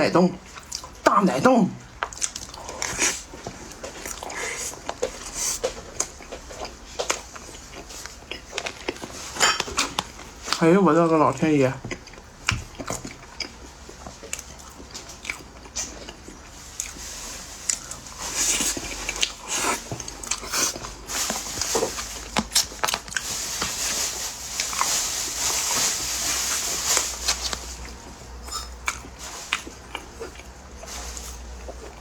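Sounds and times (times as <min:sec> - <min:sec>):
person chewing with wet clicks: 0:00.4 - 0:01.1, 0:01.8 - 0:21.4, 0:22.2 - 0:23.3, 0:25.7 - 0:32.0.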